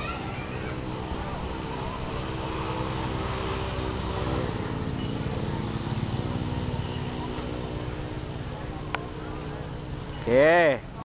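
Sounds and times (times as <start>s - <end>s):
street noise: 0.0s - 11.0s
vehicle engine running: 0.0s - 11.0s.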